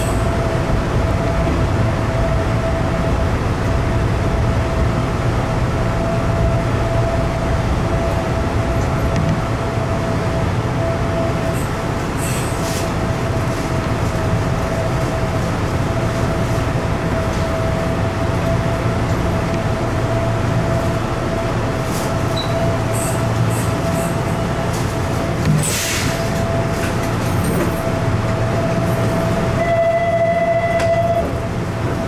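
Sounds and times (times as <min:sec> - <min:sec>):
electric train hum and whine: 0:00.0 - 0:32.0.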